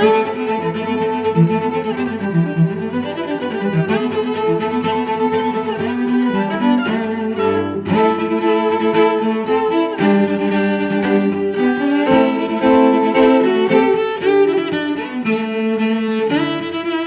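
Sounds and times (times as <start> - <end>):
cello: 0.0 - 17.0
violin: 0.0 - 17.0.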